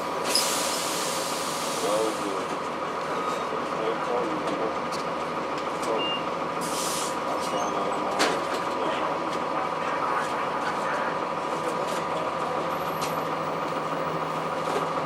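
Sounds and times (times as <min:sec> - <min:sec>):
bus engine cabin noise: 0:00.0 - 0:15.0.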